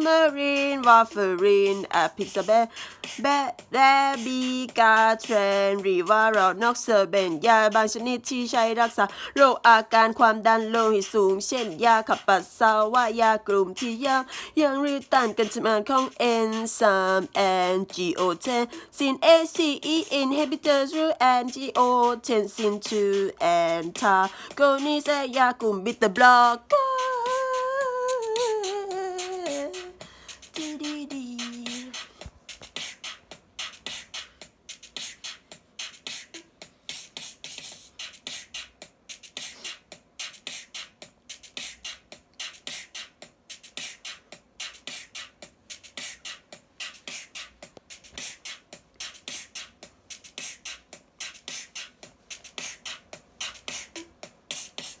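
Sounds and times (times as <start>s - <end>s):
fast percussive click beat: 0.0s - 55.0s.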